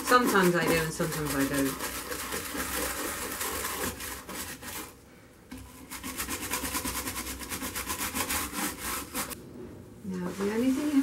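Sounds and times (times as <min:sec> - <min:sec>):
bristle brush scrubbing glass: 0:00.0 - 0:09.4, 0:10.2 - 0:11.0.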